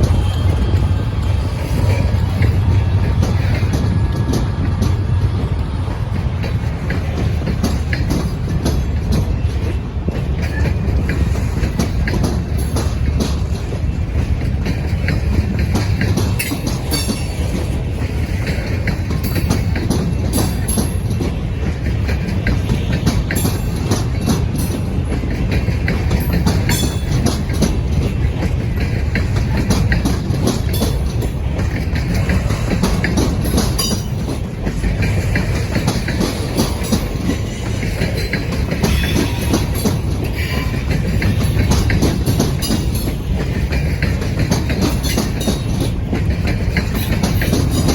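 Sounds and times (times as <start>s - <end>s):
train rumbling past: 0.0s - 47.9s
wheels clicking over rail joints: 0.0s - 47.9s.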